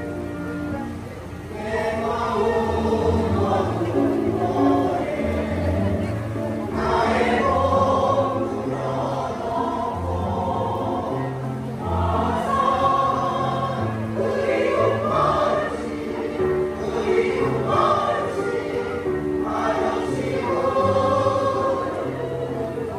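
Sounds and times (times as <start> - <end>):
mixed choir singing: 1.5 - 22.9.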